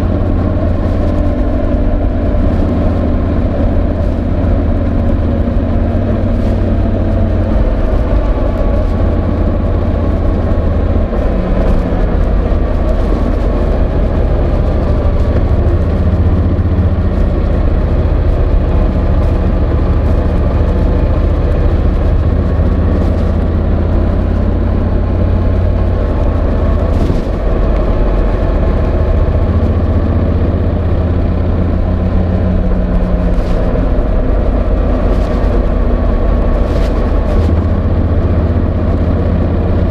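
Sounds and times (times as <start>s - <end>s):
motorcycle engine running: 0.0s - 39.9s
fabric scraping on microphone: 0.3s - 24.6s, 25.4s - 29.8s, 31.8s - 38.4s.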